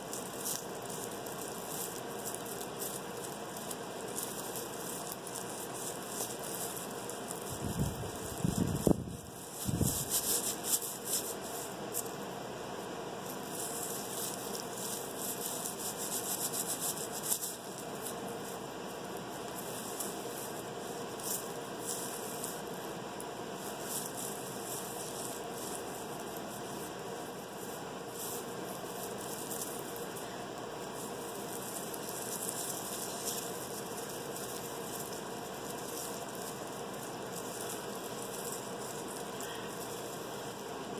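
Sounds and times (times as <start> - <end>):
dry garlic skins crackling: 0.0 - 40.9
rubbing hiss: 0.0 - 40.9.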